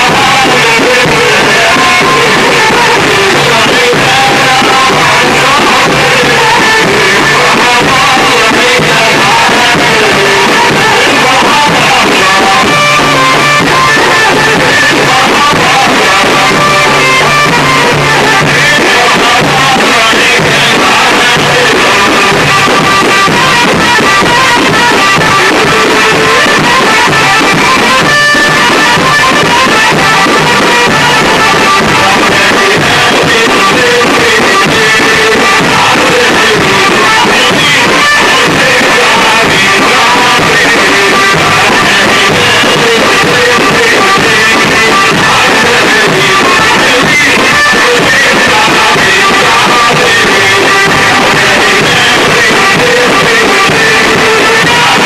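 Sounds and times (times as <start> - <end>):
folk dance music: 0.0 - 55.0.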